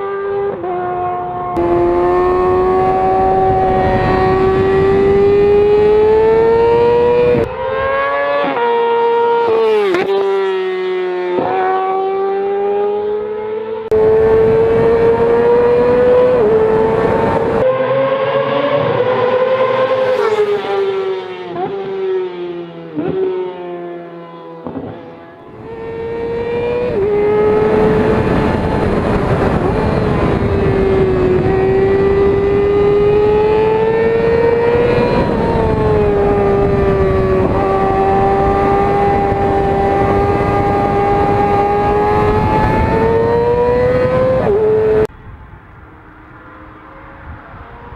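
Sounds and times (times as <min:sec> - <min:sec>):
motorcycle engine at high revs: 0:00.0 - 0:45.1.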